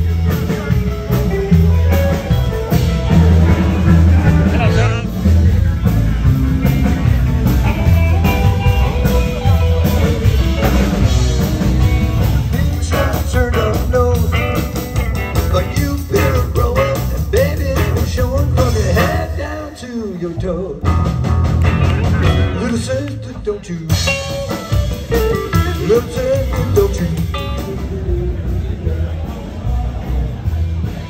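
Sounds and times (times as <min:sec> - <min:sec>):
live band playing: 0:00.0 - 0:31.0.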